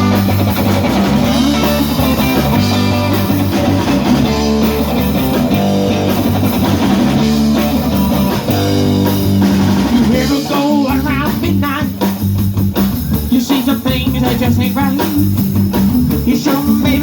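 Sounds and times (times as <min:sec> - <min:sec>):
bass guitar: 0:00.0 - 0:17.0
drum kit: 0:00.0 - 0:17.0
electric guitar: 0:00.0 - 0:17.0.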